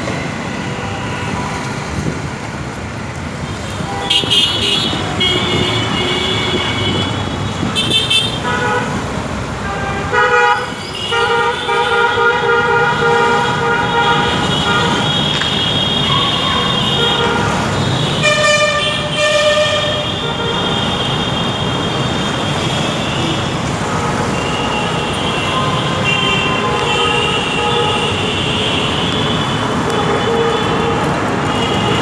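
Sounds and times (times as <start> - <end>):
road traffic noise: 0.0 - 32.0
car horns tooting: 3.8 - 32.0.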